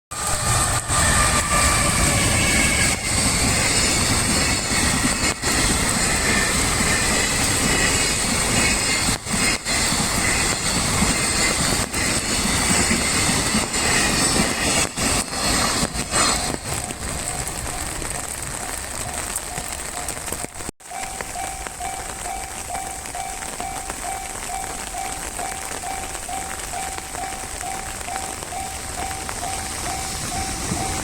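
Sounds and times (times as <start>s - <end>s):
train passing at speed: 0.1s - 31.0s.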